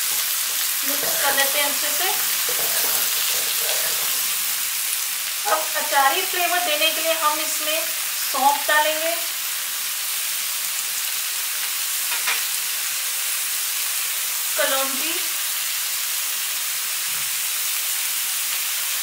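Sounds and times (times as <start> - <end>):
pumpkin sizzling in hot oil: 0.0 - 19.0.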